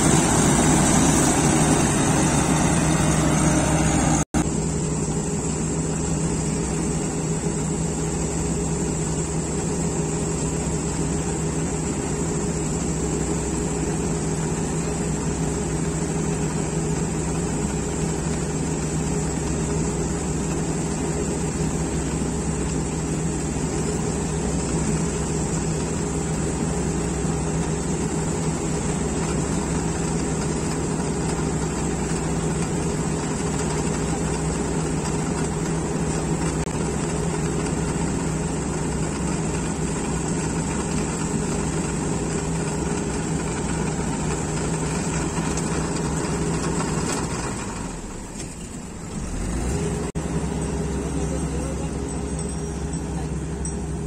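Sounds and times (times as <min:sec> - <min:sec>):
diesel farm machinery droning: 0:00.0 - 0:54.0.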